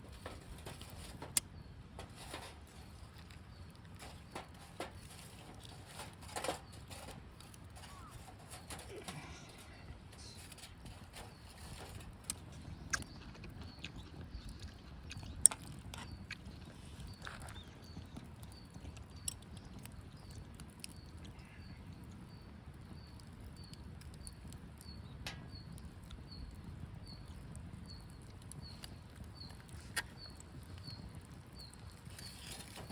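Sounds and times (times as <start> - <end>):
campfire crackling and popping: 0.0 - 32.9.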